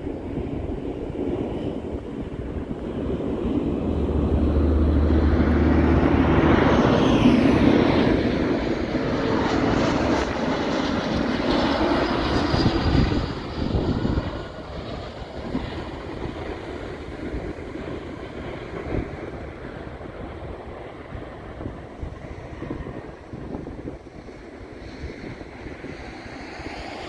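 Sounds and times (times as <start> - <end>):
distant jet hum: 0.0 - 27.0
jet engines whining: 0.0 - 27.0.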